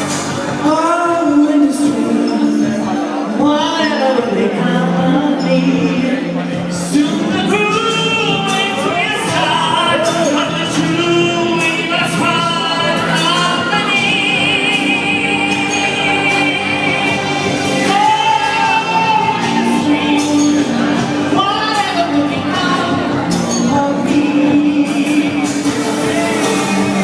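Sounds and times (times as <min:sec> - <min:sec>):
musical accompaniment: 0:00.0 - 0:27.0
person singing lead vocal: 0:00.0 - 0:27.0.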